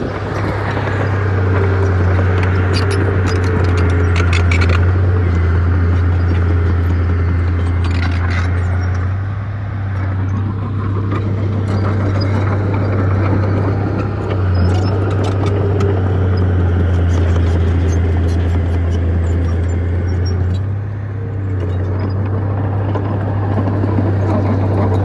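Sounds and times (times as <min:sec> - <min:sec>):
heavy diesel engine droning: 0:00.0 - 0:25.0.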